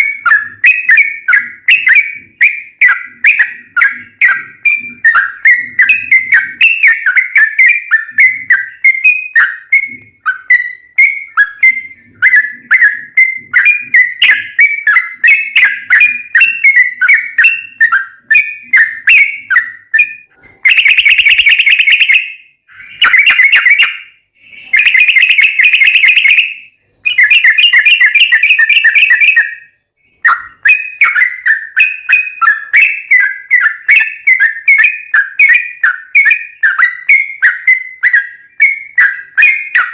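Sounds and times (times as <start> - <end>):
bird chirping whistled notes: 0.0 - 39.9.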